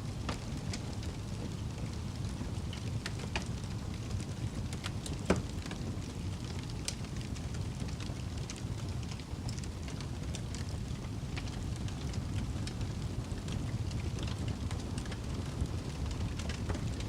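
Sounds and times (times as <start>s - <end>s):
campfire rumbling: 0.0s - 17.0s
fire crackles and pops: 0.0s - 17.0s.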